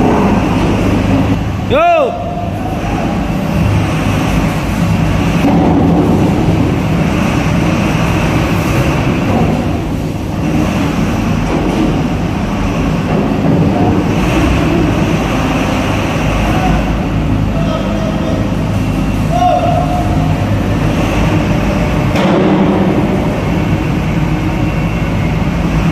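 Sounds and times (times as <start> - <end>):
heavy diesel engine under load: 0.0 - 25.9.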